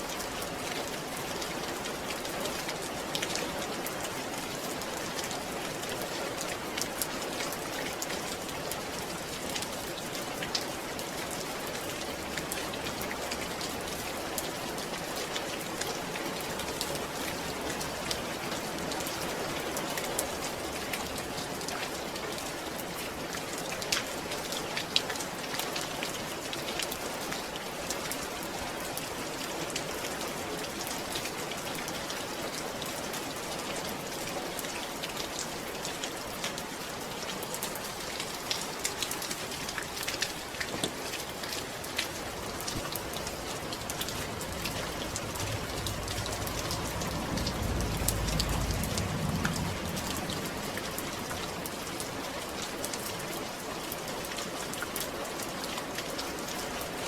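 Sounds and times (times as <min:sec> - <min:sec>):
rain drops ticking: 0:00.0 - 0:57.0
steady rain falling: 0:00.0 - 0:57.0.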